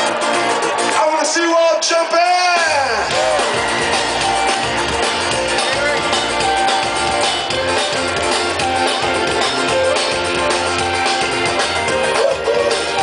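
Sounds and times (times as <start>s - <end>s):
live band playing: 0.0s - 13.0s
steady drum beat: 2.4s - 13.0s.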